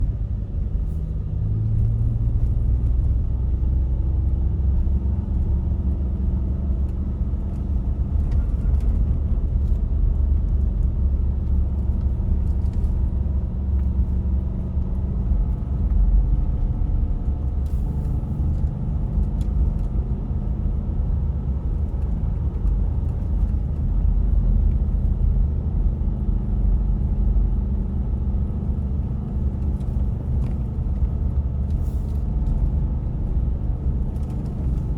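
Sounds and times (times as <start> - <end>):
truck engine rumbling: 0.0 - 34.9.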